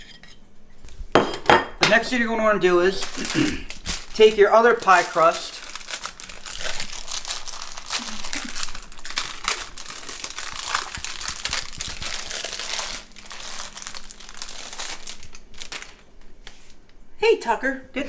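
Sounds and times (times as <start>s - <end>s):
plastic wrapper crinkling: 2.1s - 17.0s.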